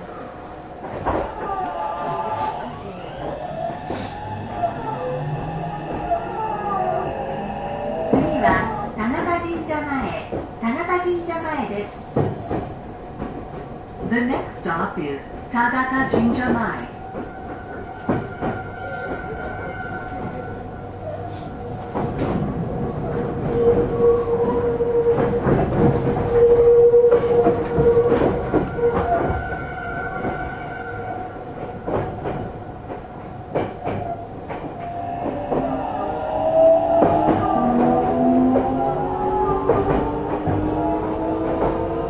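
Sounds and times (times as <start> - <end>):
train wheel rumble: 0.0 - 42.0.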